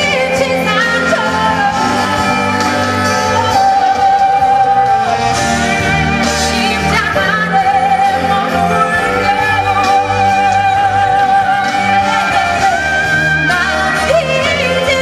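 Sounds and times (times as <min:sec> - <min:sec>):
band accompaniment: 0:00.0 - 0:15.0
woman singing with vibrato: 0:00.0 - 0:15.0.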